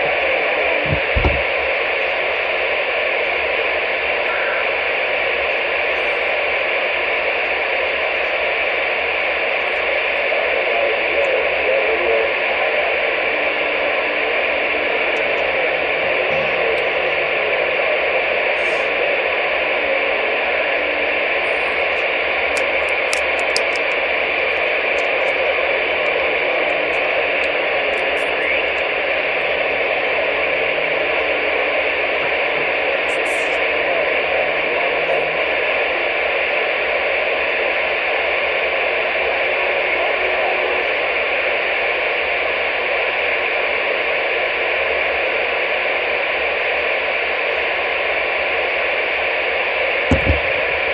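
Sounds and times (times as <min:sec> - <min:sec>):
radio static hiss: 0:00.0 - 0:50.9.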